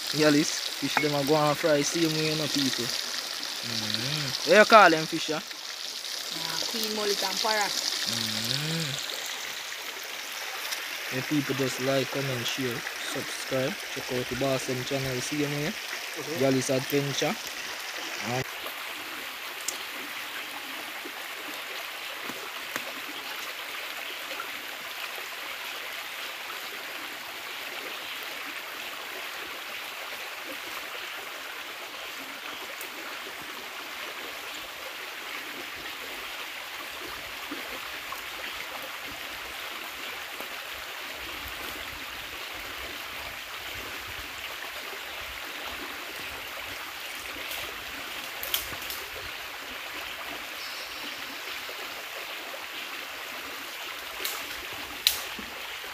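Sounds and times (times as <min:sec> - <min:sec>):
river water flowing over rocks: 0:00.0 - 0:55.9.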